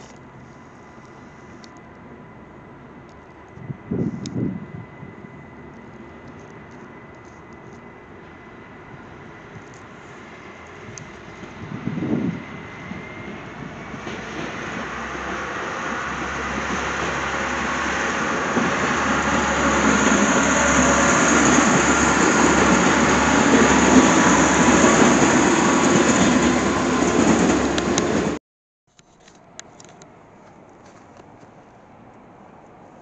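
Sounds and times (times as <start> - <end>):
train wheels rumbling on track: 0.0 - 28.4.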